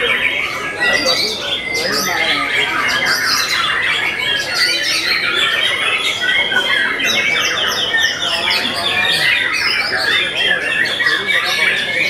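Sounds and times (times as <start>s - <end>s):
caged birds singing: 0.0s - 12.0s.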